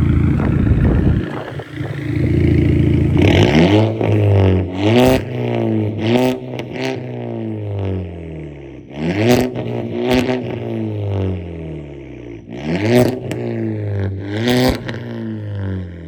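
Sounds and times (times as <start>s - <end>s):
car engine revving: 0.0s - 16.0s
exhaust crackle: 0.0s - 16.0s.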